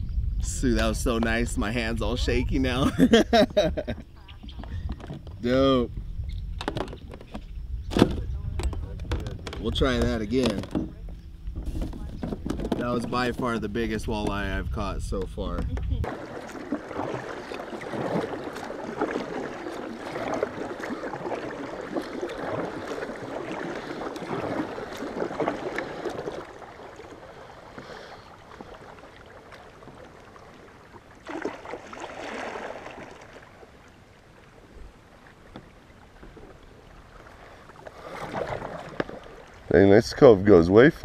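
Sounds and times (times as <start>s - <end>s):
water sloshing around a kayak: 0.5s - 41.0s.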